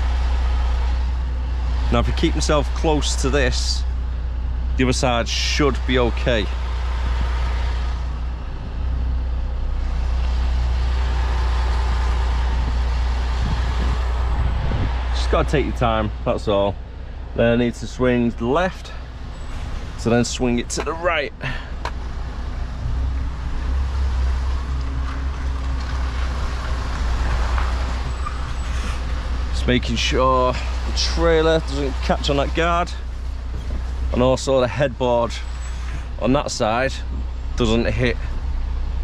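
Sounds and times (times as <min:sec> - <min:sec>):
diesel truck engine droning: 0:00.0 - 0:39.0.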